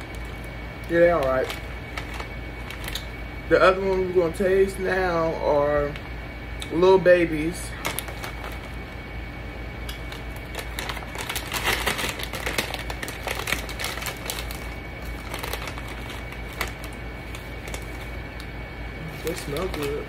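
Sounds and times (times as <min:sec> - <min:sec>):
plastic chip bag crinkling: 0:00.0 - 0:04.8, 0:07.4 - 0:09.0, 0:09.9 - 0:20.0.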